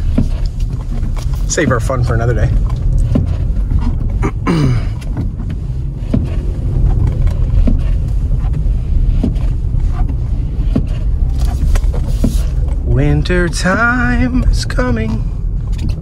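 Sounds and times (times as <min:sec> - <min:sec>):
engine and road rumble: 0:00.0 - 0:16.0
windshield wipers knocking: 0:00.0 - 0:16.0.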